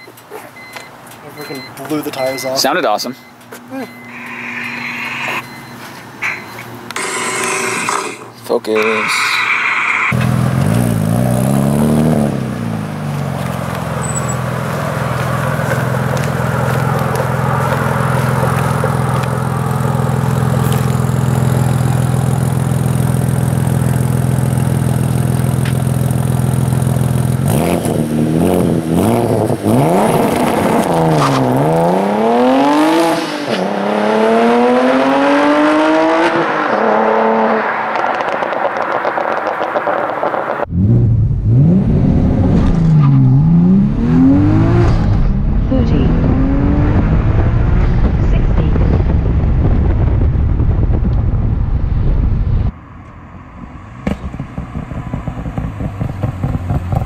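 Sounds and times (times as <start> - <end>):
car engine idling and accelerating: 0.0 - 57.0.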